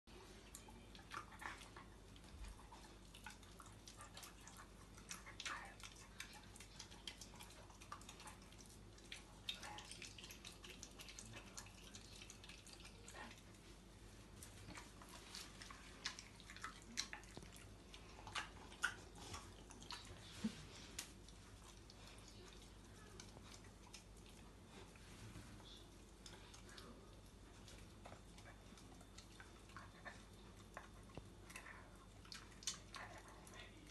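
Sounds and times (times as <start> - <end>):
puppy chewing and crunching food: 0.1 - 33.9.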